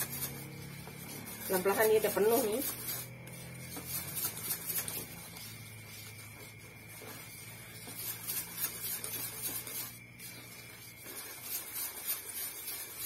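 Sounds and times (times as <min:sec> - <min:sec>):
batter scraping and swishing in pot: 0:00.0 - 0:13.0.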